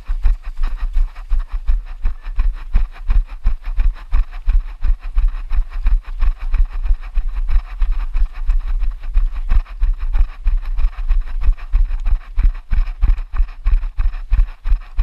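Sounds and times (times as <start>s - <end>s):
low rumble: 0.0s - 15.0s
running footsteps: 0.0s - 15.0s.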